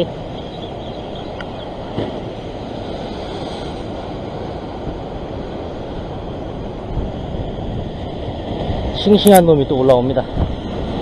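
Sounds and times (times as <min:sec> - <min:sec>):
ocean surf washing over rocks: 0:00.0 - 0:11.0
wind on microphone: 0:00.0 - 0:11.0.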